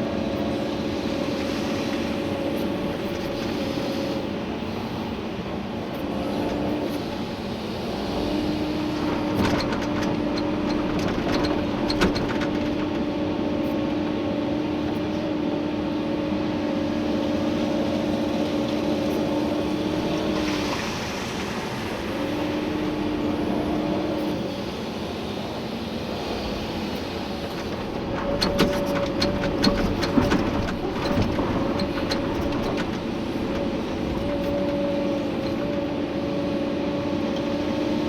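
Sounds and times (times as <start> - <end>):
excavator engine and hydraulics: 0.0 - 38.0.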